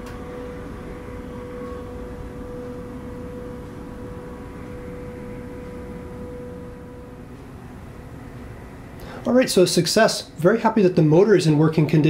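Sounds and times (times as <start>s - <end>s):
industrial fan running: 0.0s - 12.0s.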